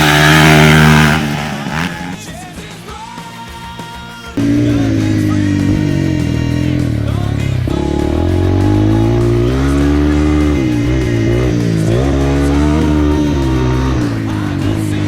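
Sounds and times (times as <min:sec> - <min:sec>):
dirt bike engine revving: 0:00.0 - 0:03.0, 0:04.4 - 0:15.0
background music: 0:00.0 - 0:15.0.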